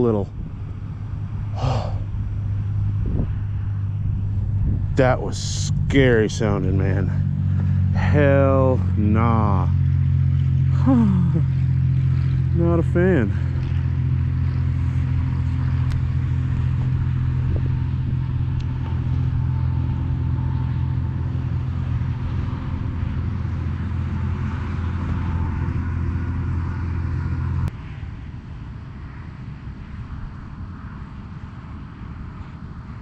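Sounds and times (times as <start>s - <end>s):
faint rumble: 0.0s - 33.0s
low motor drone: 0.0s - 33.0s.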